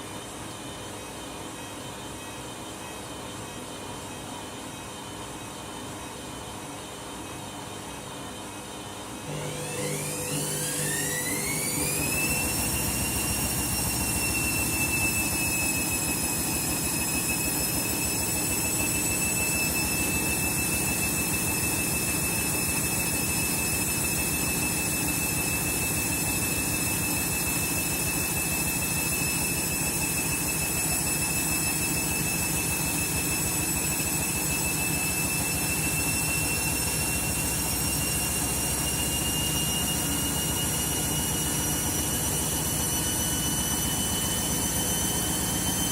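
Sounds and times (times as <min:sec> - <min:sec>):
washing machine motor whine: 0:00.0 - 0:45.9.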